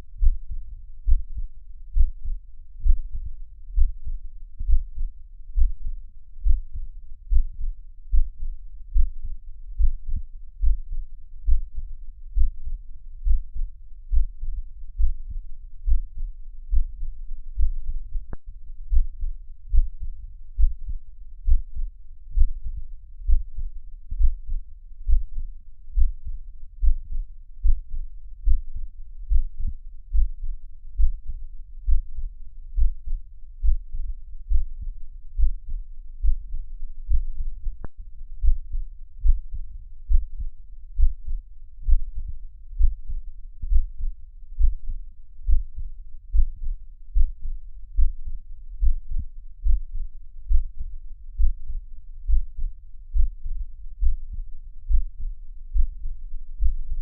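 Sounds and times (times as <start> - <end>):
heartbeat thumps: 0.2 - 57.0.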